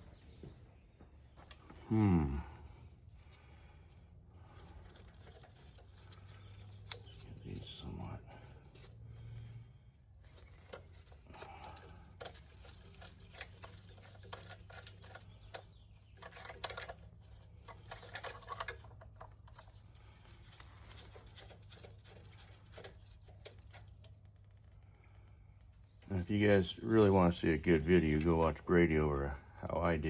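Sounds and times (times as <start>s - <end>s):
steady low hum: 1.4s - 30.0s.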